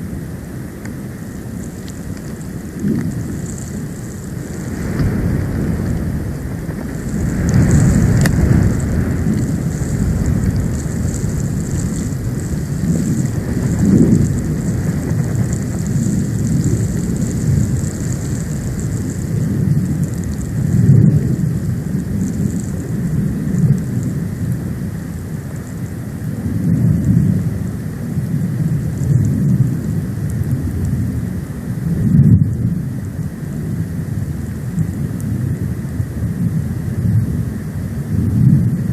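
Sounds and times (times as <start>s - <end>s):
hiss of wind and snow: 0.0s - 38.9s
wind buffeting microphone: 0.0s - 38.9s.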